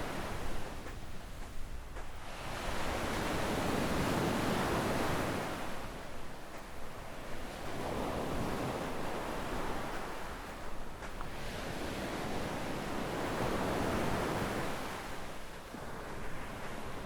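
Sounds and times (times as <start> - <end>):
waves washing onto sandy beach: 0.0 - 17.0.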